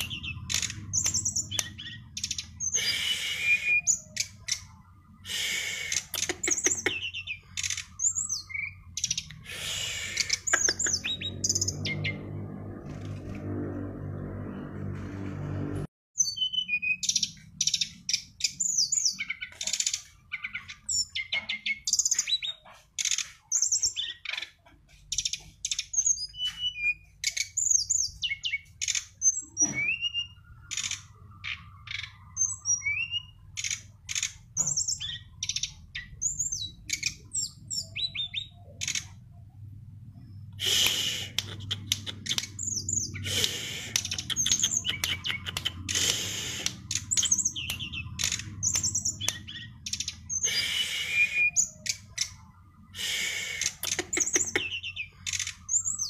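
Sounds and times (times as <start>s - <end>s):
songbirds chirping and singing: 0.0s - 15.4s, 16.2s - 56.0s.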